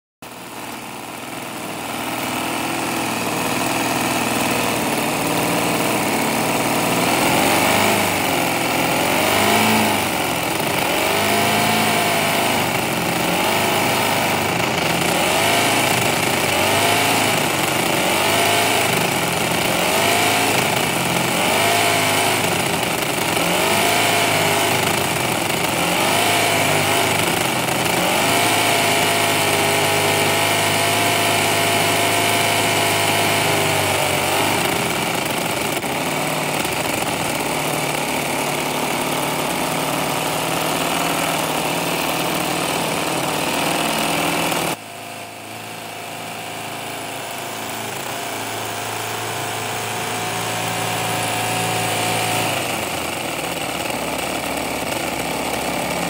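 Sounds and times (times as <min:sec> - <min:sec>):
model engine running: 0:00.2 - 0:56.0.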